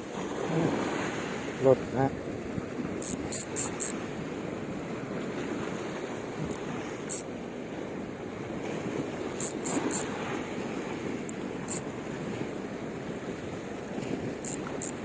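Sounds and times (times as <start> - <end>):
sea waves washing on shore: 0.0 - 15.0
wind: 0.0 - 15.0.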